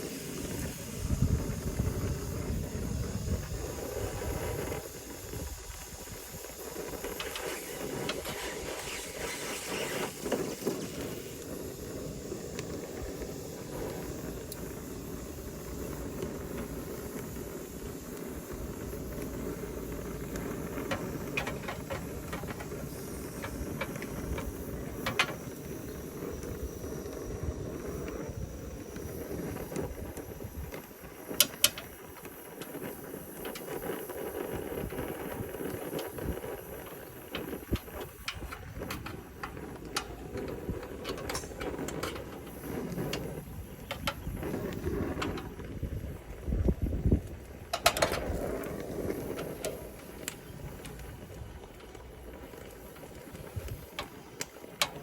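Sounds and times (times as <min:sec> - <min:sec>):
torch flame hissing: 0:00.0 - 0:55.0.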